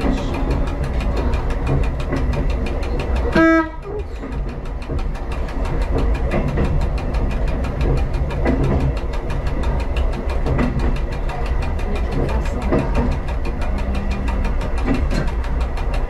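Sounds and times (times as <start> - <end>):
railcar diesel engine rumbling: 0.0 - 16.0.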